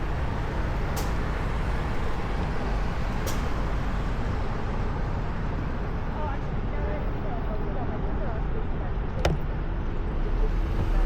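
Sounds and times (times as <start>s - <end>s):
road rumble: 0.0s - 11.0s
wind: 0.0s - 11.0s.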